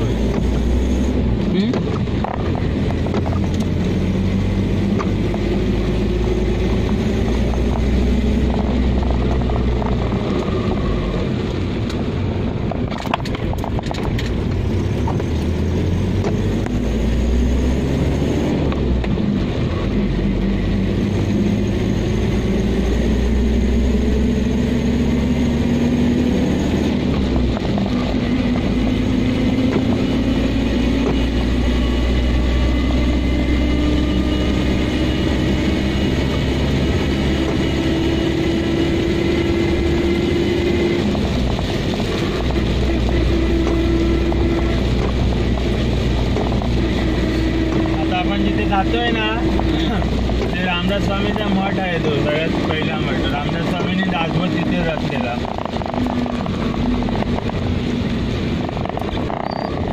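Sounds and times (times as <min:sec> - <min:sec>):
car engine inside cabin: 0:00.0 - 0:59.9.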